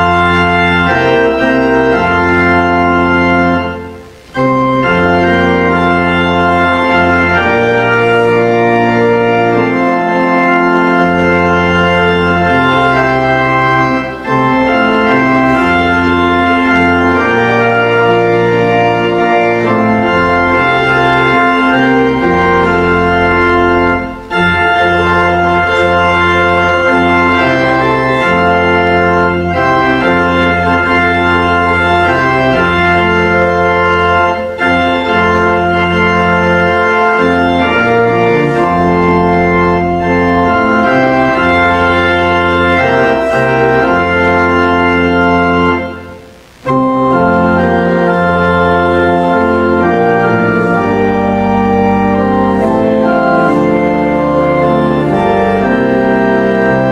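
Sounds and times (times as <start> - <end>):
church organ chords: 0.0 - 56.9.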